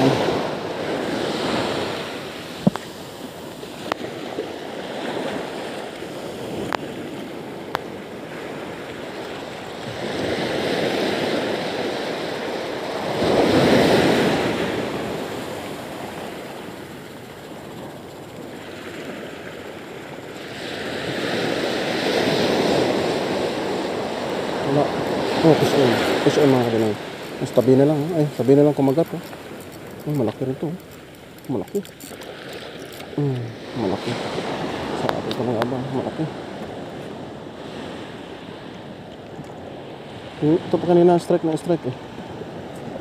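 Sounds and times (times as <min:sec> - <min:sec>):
small waves breaking on beach: 0:00.0 - 0:43.0.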